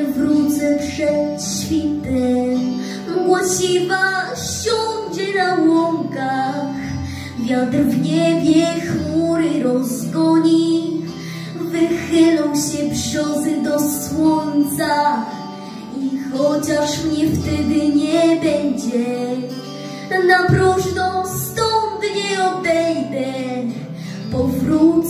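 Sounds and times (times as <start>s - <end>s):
girl singing into microphone: 0.0s - 25.0s
instrumental backing track: 0.0s - 25.0s.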